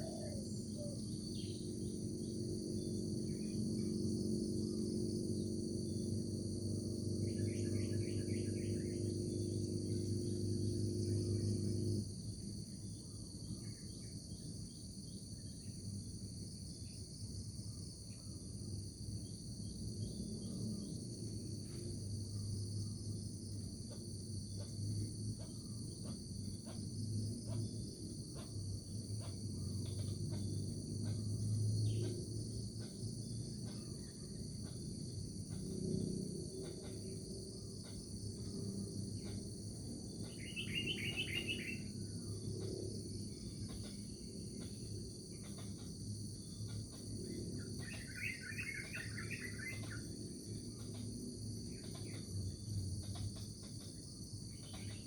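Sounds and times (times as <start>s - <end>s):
crickets and insects chorus: 0.0s - 55.0s
short insect chirps: 0.0s - 55.0s.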